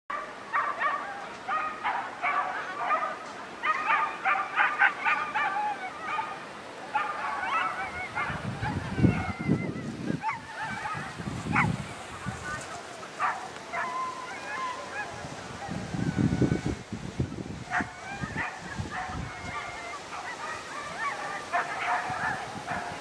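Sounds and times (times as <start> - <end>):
dogs yelping and barking: 0.1 - 11.8, 13.2 - 15.2, 17.7 - 23.0.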